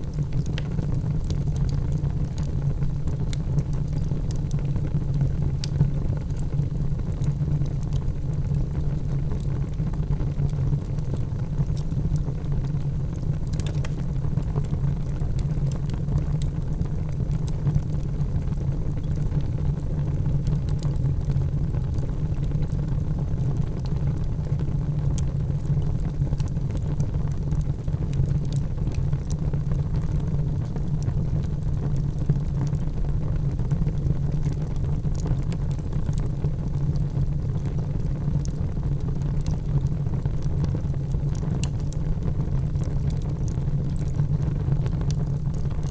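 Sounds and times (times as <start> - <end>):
fire crackling and popping: 0.0 - 45.9
fire rumbling: 0.0 - 45.9.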